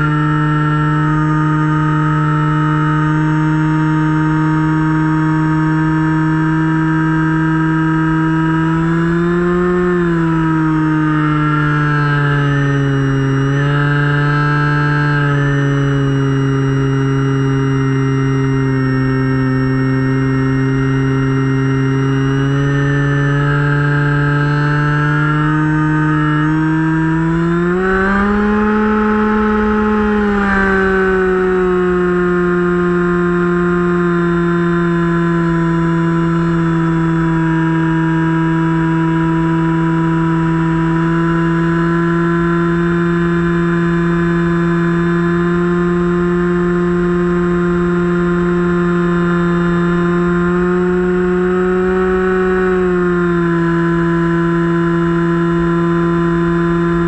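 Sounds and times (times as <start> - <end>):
model plane motor whining: 0.0 - 57.0.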